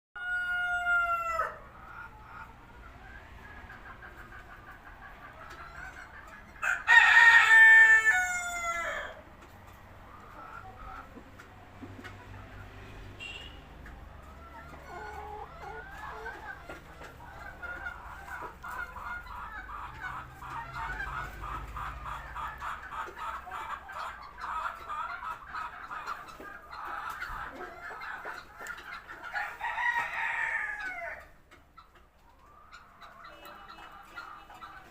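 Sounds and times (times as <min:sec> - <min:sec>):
chickens clucking: 0:00.2 - 0:34.9
drawn-out chicken call: 0:00.2 - 0:34.9.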